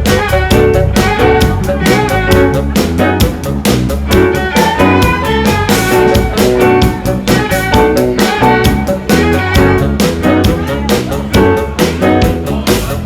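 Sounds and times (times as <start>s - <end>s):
upbeat band music: 0.0s - 13.0s.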